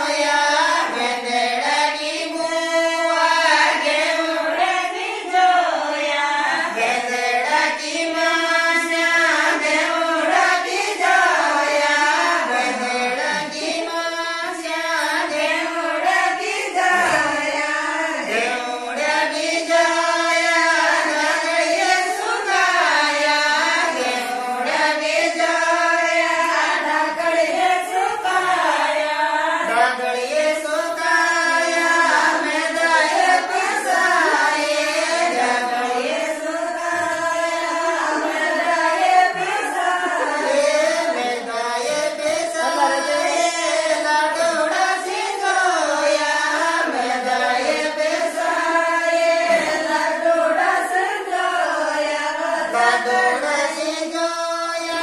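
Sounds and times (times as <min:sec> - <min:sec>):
women singing folk song: 0:00.0 - 0:55.0.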